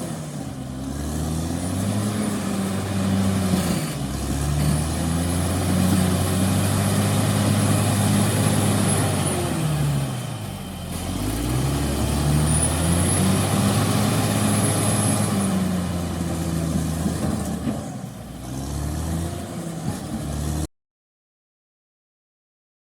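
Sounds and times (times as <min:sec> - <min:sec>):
bulldozer diesel engine running: 0:00.0 - 0:20.7
high engine whine: 0:00.0 - 0:20.7.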